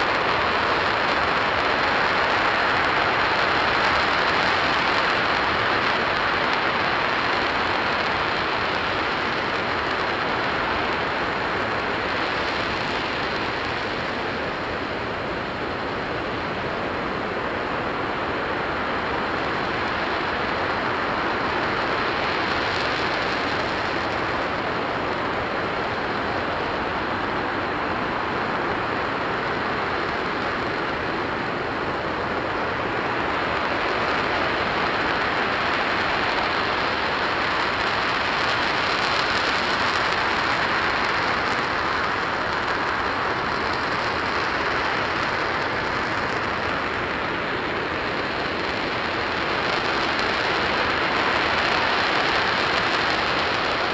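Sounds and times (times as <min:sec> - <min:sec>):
rocket engine roaring: 0:00.0 - 0:53.9.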